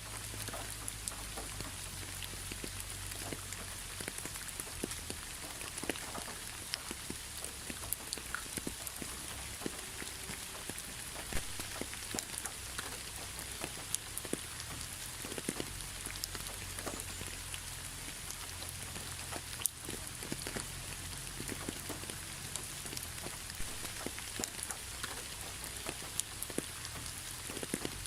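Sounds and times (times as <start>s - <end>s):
rain drops ticking on hard surface: 0.0s - 28.0s
steady rain hiss: 0.0s - 28.0s.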